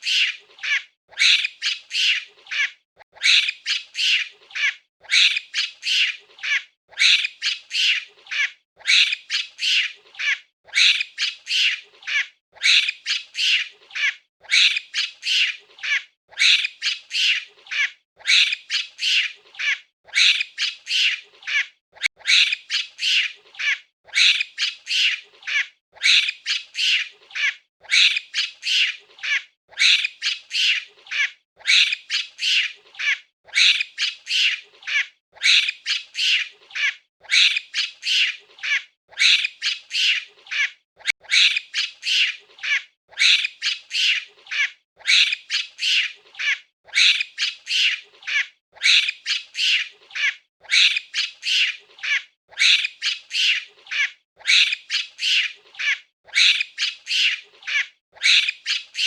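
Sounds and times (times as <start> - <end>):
monkey screeching calls: 0.0 - 59.0.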